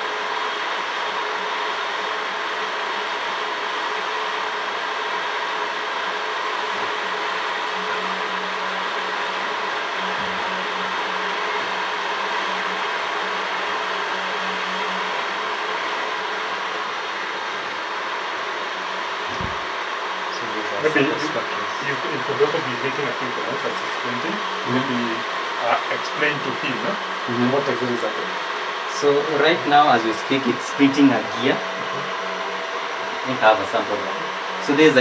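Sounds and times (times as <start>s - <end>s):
printer fans and motors whirring: 0.0s - 35.0s
low hum: 6.4s - 35.0s.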